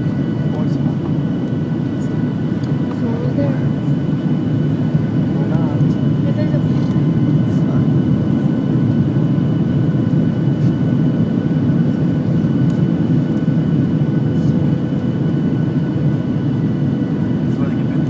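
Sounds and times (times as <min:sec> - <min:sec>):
constant whining tones: 0:00.0 - 0:18.0
jet engine roar in cabin: 0:00.0 - 0:18.0.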